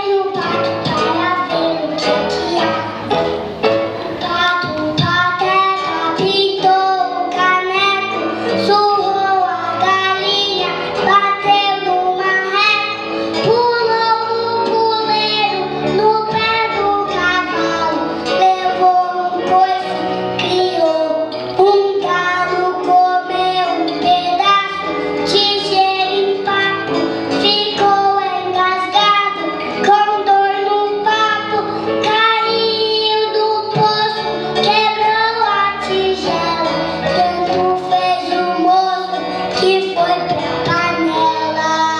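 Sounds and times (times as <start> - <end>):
child singing: 0.0 - 41.9
instrumental accompaniment: 0.0 - 41.9.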